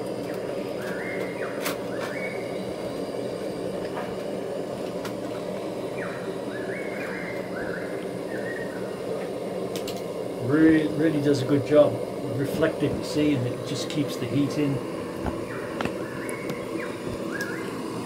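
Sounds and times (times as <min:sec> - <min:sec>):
camping stove burner rushing: 0:00.0 - 0:18.0.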